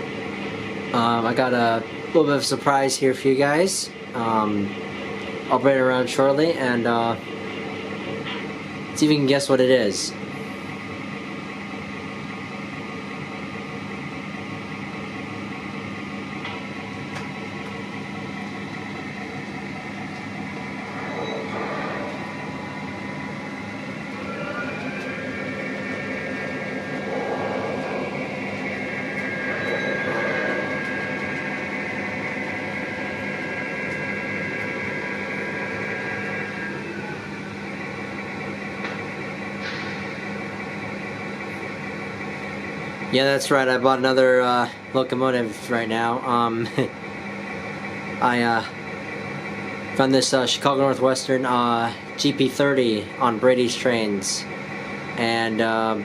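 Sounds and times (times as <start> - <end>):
model train diesel engine sound: 0.0 - 56.0.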